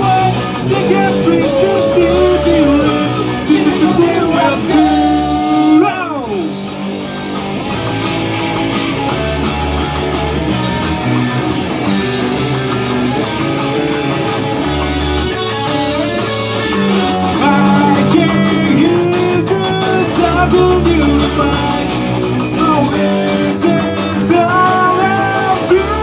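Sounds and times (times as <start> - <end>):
bass line: 0.0 - 26.0
guitar rock music: 0.0 - 26.0.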